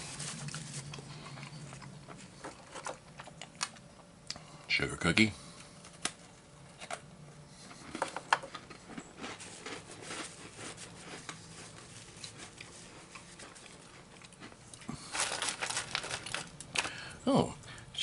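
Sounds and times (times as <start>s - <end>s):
cookie crunching while eaten: 0.0s - 4.5s, 5.9s - 17.1s.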